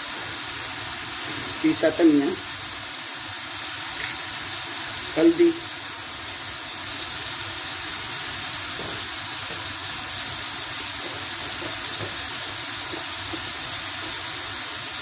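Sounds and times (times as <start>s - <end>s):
masala sizzling in oil: 0.0s - 15.0s.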